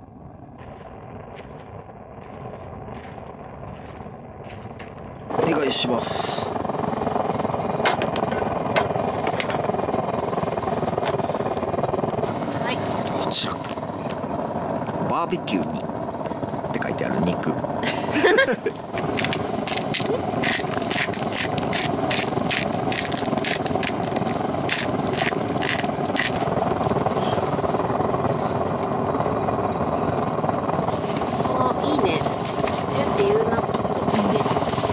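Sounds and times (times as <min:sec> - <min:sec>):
fire crackles: 0:00.0 - 0:34.9
stove fire roaring: 0:00.0 - 0:34.9.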